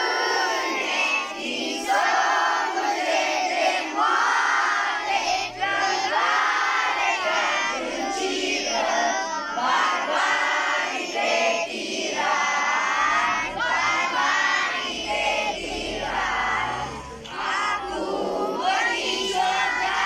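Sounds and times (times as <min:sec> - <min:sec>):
children singing in unison: 0:00.0 - 0:20.0.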